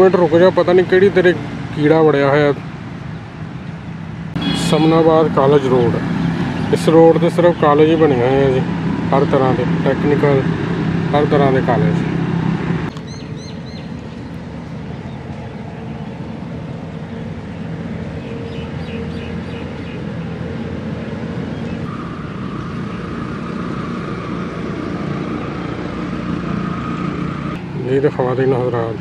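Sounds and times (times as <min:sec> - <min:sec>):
road vehicles rumbling: 0:00.0 - 0:29.0
thin steady whine: 0:00.0 - 0:29.0.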